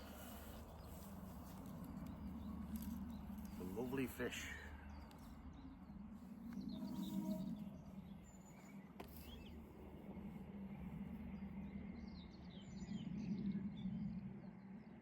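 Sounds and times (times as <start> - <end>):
small birds chirping and singing: 0.0 - 9.7, 12.0 - 15.0.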